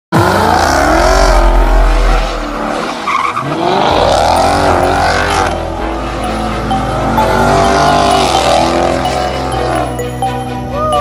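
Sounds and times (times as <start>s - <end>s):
car engine revving: 0.1s - 9.9s
tyres squealing and skidding: 0.2s - 9.8s.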